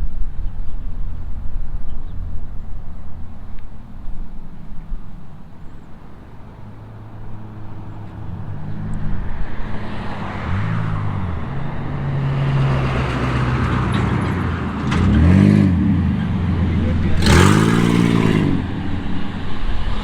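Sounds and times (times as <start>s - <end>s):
cars passing close by: 0.0s - 20.0s.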